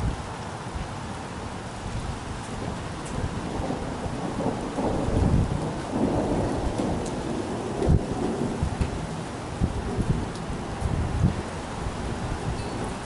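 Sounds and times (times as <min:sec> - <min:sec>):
light rain: 0:00.0 - 0:13.0
raindrops ticking: 0:01.1 - 0:13.0
thunder rumbling: 0:02.0 - 0:13.0.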